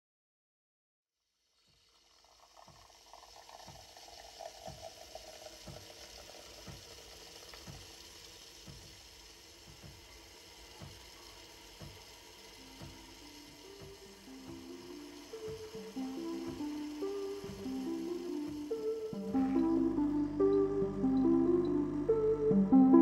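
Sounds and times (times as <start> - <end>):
milk frothing hiss and bubbling: 1.3 - 22.7
coffee machine low pulse: 2.0 - 23.0.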